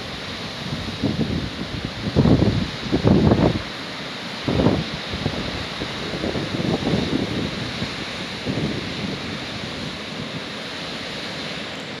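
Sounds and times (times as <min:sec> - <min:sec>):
surf rushing: 0:00.0 - 0:12.0
wind gusting against microphone: 0:00.0 - 0:12.0.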